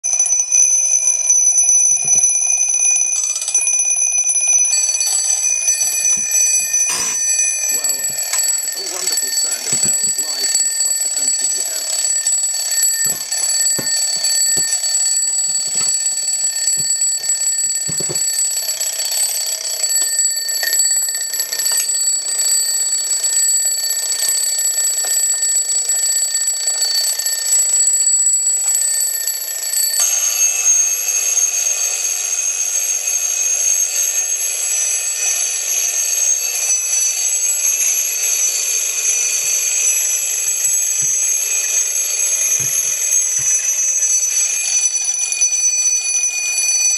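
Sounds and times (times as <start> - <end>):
alarm clocks ringing: 0.0 - 46.9.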